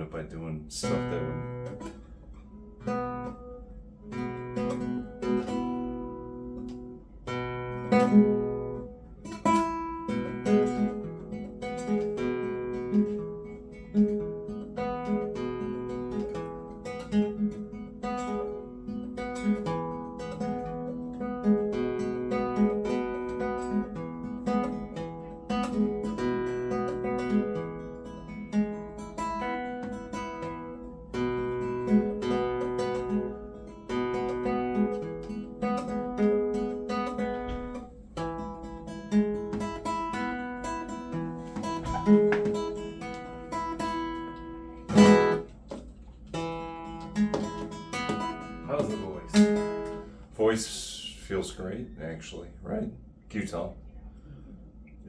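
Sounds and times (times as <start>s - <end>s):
acoustic guitar melody: 0.0s - 52.2s.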